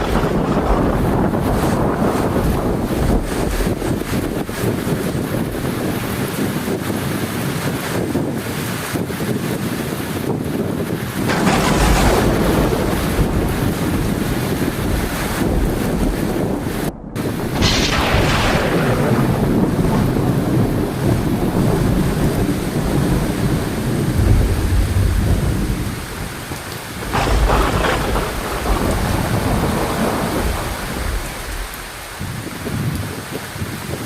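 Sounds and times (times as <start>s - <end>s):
heavy rain falling: 0.0s - 34.0s
thunder rumbling: 0.0s - 34.0s.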